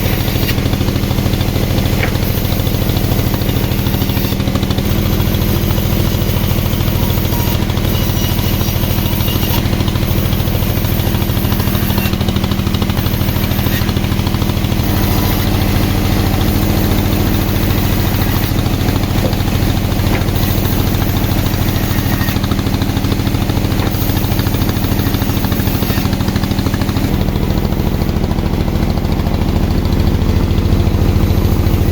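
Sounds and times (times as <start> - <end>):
sawmill engine humming: 0.0 - 31.9.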